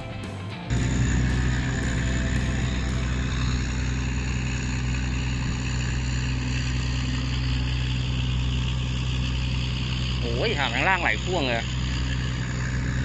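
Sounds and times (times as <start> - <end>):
tugboat diesel engine droning: 0.0 - 13.0.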